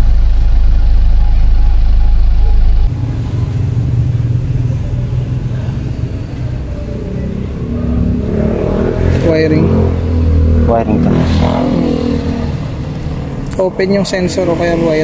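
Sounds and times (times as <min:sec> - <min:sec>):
car engine idling: 0:00.0 - 0:08.3, 0:09.3 - 0:15.0.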